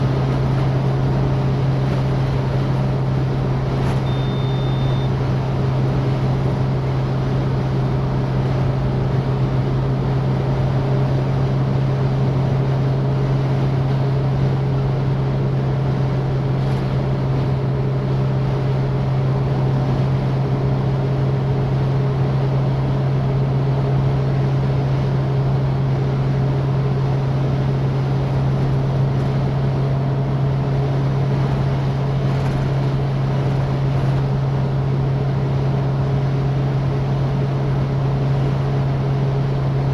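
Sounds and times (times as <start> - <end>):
car engine low drone: 0.0 - 39.9.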